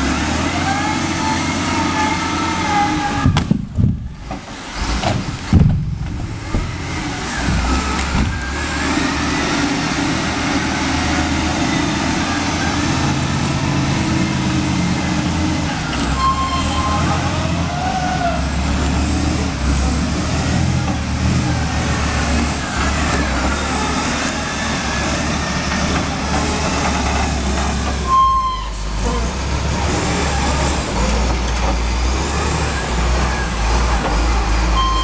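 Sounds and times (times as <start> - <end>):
heavy engine rumbling: 0.0 - 35.0.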